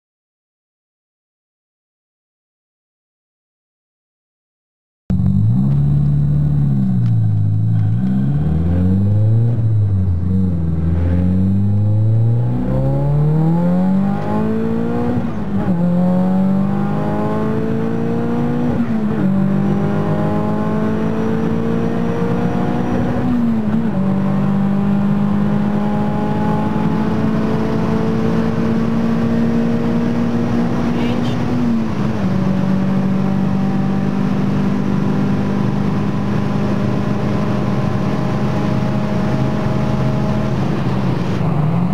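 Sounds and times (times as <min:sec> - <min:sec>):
turbocharged engine accelerating: 0:05.1 - 0:41.9.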